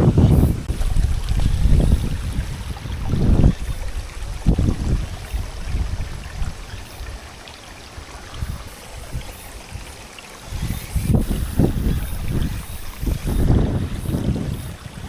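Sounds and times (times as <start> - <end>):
rainwater runoff rushing: 0.0 - 15.0
wind buffeting microphone: 0.0 - 15.0.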